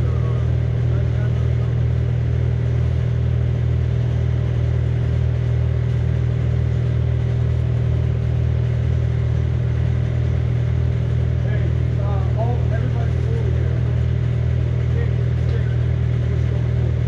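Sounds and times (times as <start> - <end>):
heavy equipment engine humming: 0.0 - 17.0.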